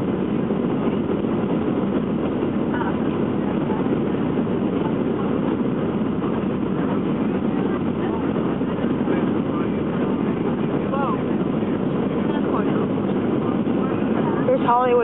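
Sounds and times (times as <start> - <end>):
airplane cabin rush: 0.0 - 15.0.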